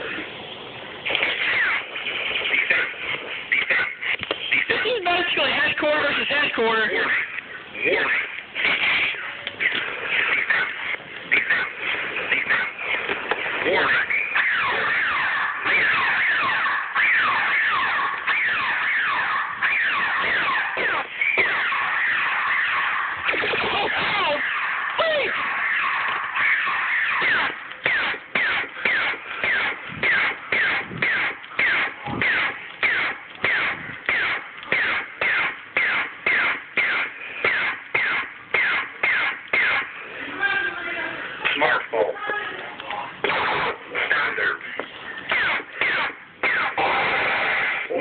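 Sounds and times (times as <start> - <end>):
electronic falling zaps: 1.0 - 40.0, 45.2 - 48.0.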